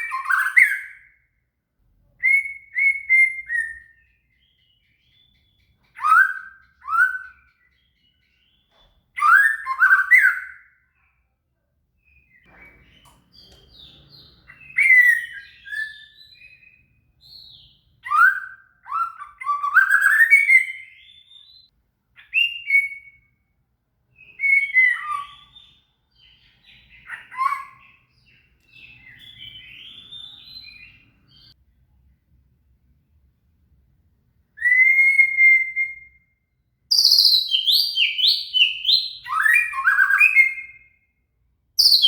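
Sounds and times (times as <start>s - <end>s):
bird singing whistled phrases: 0.0s - 1.2s, 2.2s - 8.6s, 9.2s - 10.8s, 12.0s - 23.4s, 24.1s - 31.6s, 34.6s - 41.1s, 41.8s - 42.0s.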